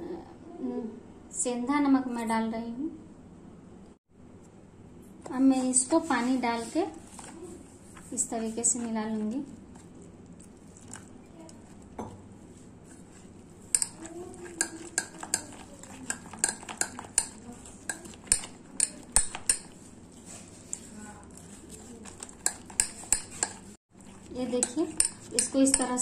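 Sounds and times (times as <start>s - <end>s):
batter being mixed in a bowl: 4.3s - 26.0s.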